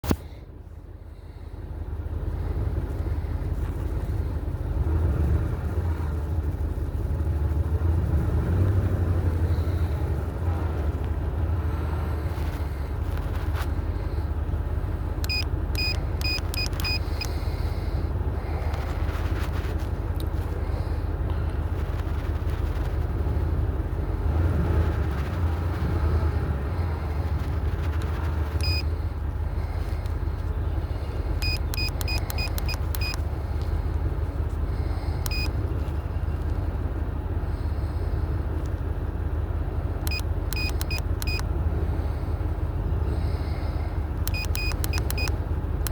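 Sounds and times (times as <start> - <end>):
pickup engine idling: 0.0 - 45.9.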